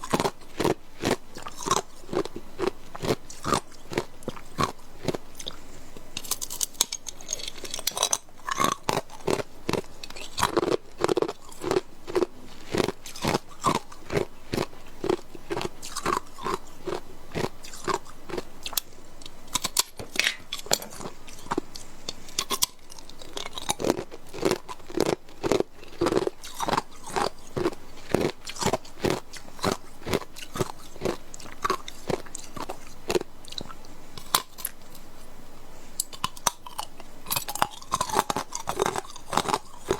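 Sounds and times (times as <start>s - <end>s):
ice cubes crunching while chewed: 0.0s - 18.9s, 19.5s - 35.0s, 36.0s - 39.9s.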